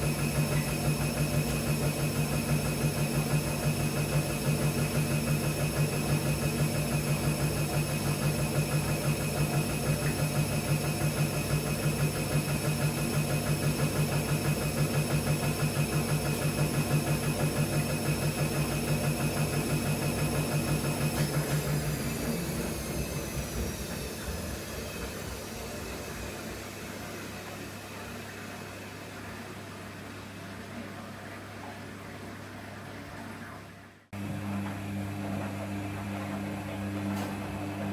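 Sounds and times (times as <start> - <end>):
washing machine humming: 0.0 - 37.9.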